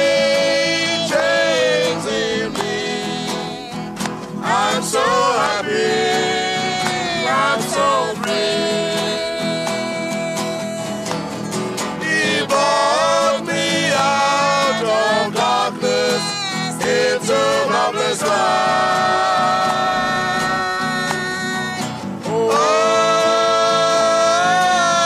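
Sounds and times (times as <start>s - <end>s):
men singing gospel chorus: 0.0s - 10.9s, 12.0s - 25.0s
strummed acoustic guitar: 0.0s - 25.0s.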